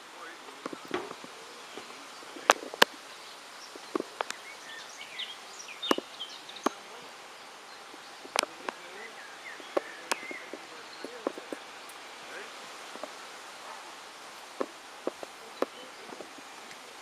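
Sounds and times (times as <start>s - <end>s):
faint chirping: 0.0s - 17.0s.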